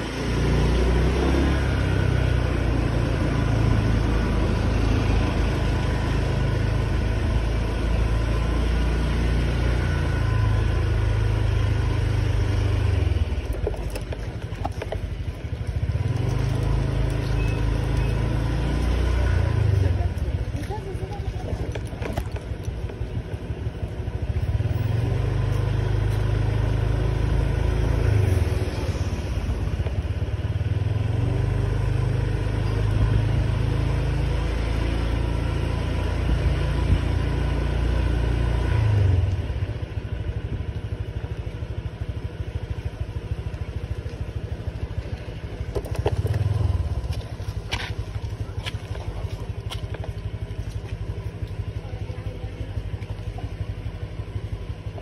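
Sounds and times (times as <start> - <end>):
motor scooter engine: 0.0 - 55.0.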